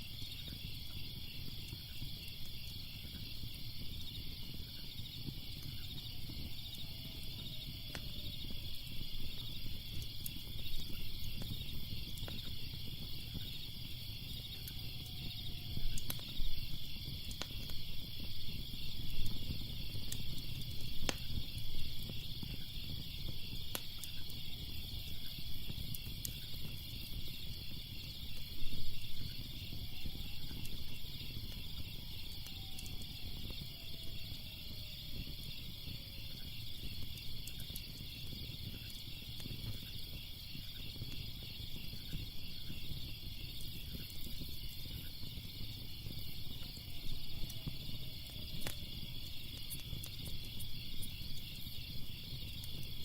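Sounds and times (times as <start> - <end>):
crickets chirping: 0.0 - 53.0
fire crackling and popping: 0.0 - 53.0.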